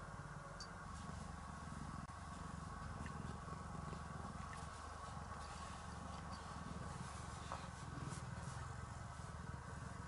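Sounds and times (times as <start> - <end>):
cat purring: 1.0 - 10.0.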